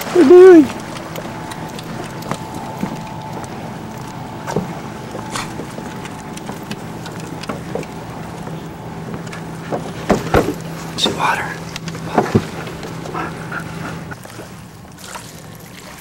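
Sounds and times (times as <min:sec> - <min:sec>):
motorboat engine droning: 0:00.0 - 0:16.0
wind: 0:00.0 - 0:16.0.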